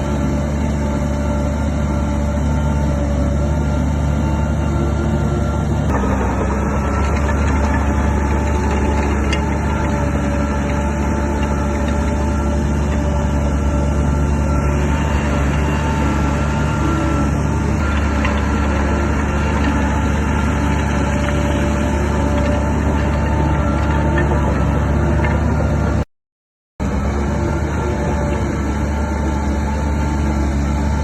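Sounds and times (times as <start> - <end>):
bulldozer diesel engine running: 0.0 - 26.1, 26.8 - 31.0.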